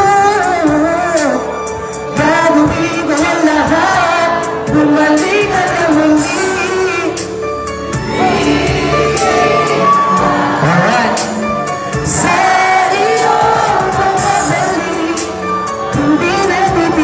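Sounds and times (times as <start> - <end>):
person singing: 0.0 - 7.3, 8.1 - 17.0
backing track with steady beat: 0.0 - 17.0.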